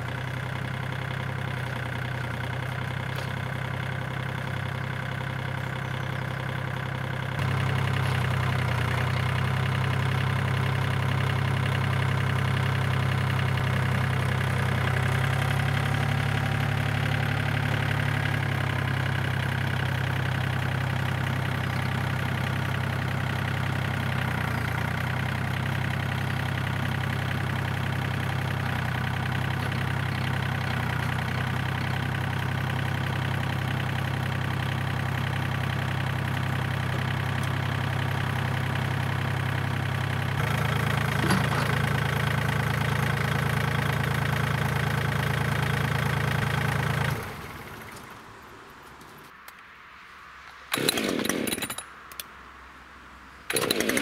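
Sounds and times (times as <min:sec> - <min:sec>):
tractor diesel engine running: 0:00.0 - 0:49.3, 0:50.7 - 0:52.3, 0:53.5 - 0:54.0.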